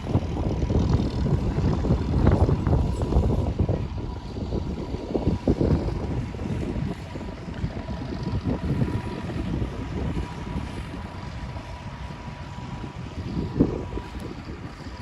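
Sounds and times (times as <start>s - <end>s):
machinery engine rumbling: 0.0s - 15.0s.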